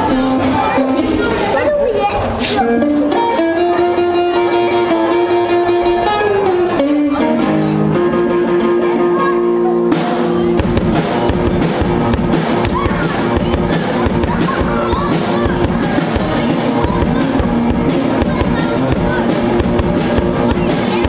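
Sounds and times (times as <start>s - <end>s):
drum kit steady beat: 2.4s - 21.0s
electric guitar lead notes: 2.6s - 21.0s.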